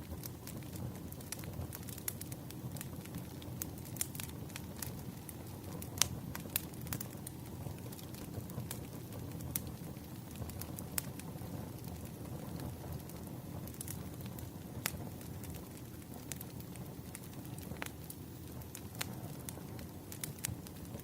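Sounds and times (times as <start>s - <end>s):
campfire flames rumbling: 0.0s - 21.0s
fire crackling and popping: 0.0s - 21.0s.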